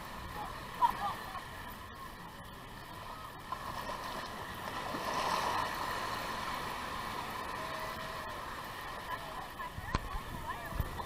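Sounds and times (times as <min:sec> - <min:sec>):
surf waves washing up beach: 0:00.0 - 0:11.0.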